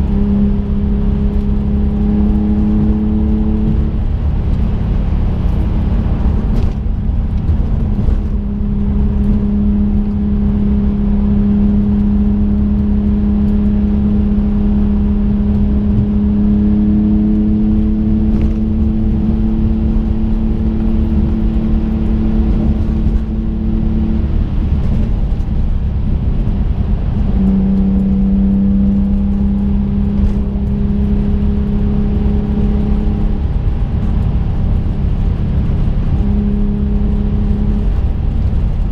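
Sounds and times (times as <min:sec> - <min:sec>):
car engine drone: 0:00.0 - 0:38.9
road and tyre rumble: 0:00.0 - 0:38.9.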